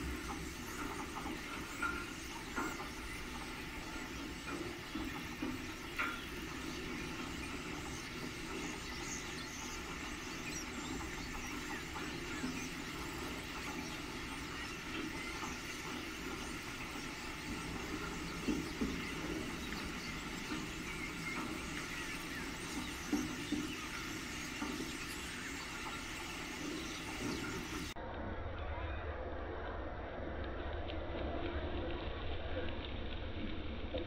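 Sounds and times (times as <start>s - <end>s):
close bird calls: 0.0s - 28.0s
flock of starlings chattering: 0.0s - 28.0s.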